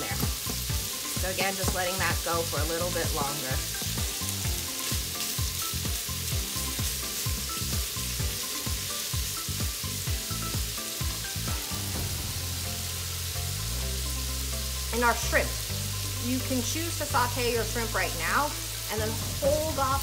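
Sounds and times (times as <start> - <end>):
meat sizzling in a pot: 0.0 - 20.0.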